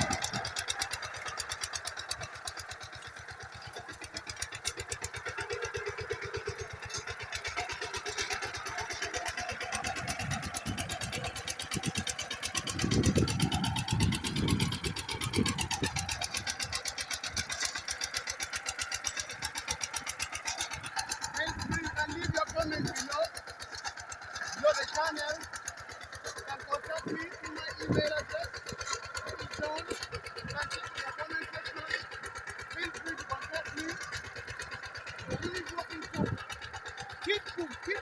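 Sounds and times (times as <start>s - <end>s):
walking tractor engine chugging: 0.0s - 38.0s.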